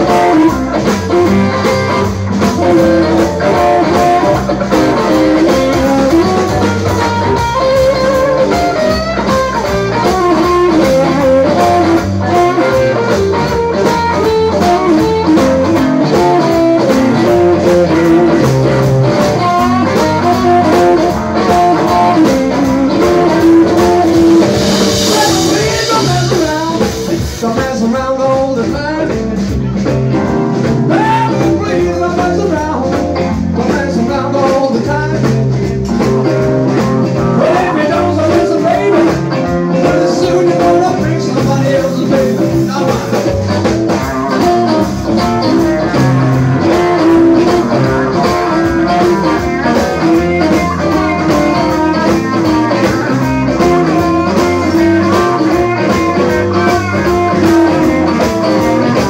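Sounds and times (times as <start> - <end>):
electric guitar bending notes: 0.0 - 27.5, 28.3 - 59.0
drums: 0.0 - 59.0
electric bass: 0.0 - 59.0.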